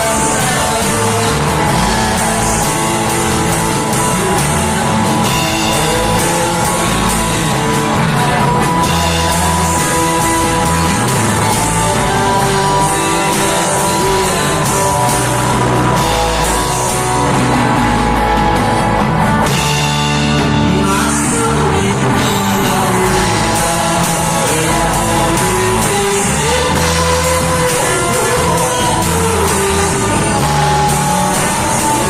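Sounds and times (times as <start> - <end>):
live rock band playing: 0.0 - 32.0
person singing: 0.0 - 32.0.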